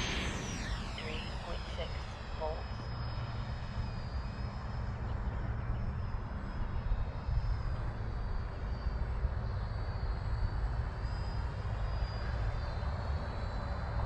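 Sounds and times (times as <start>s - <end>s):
jet fan high whine: 0.0s - 14.0s.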